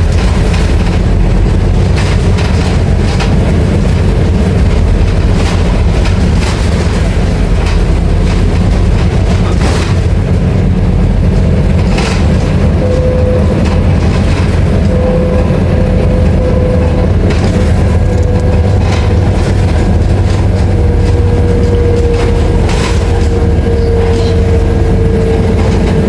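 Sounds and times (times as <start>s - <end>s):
bus body rattling: 0.0s - 26.0s
bus diesel engine drone: 0.0s - 26.0s.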